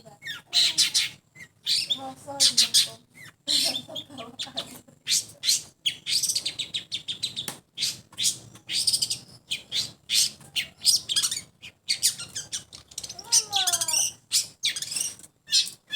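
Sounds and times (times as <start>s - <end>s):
bird chirping and chattering: 0.0s - 15.9s.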